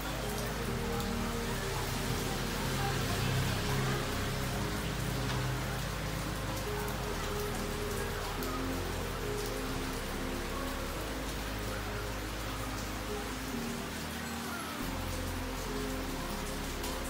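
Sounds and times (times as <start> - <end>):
soft music of low notes: 0.0 - 17.0
steady rain falling: 0.0 - 17.0
water drips: 0.0 - 17.0.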